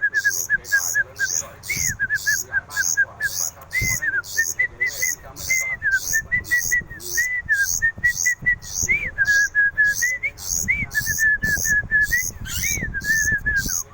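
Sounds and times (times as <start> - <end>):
songbird chirping and whistling: 0.0 - 13.9.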